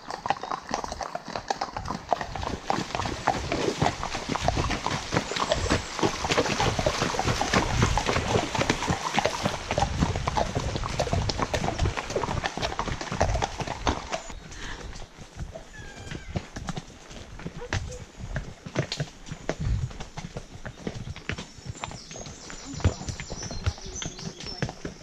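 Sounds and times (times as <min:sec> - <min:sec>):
hooves clopping on wet lane: 0:00.0 - 0:25.0
hooves splashing through water: 0:00.0 - 0:25.0.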